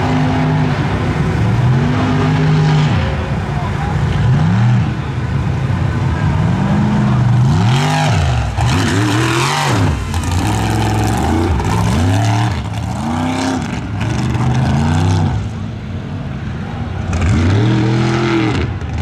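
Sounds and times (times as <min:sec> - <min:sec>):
truck engine revving hard: 0:00.0 - 0:15.7, 0:16.9 - 0:19.0.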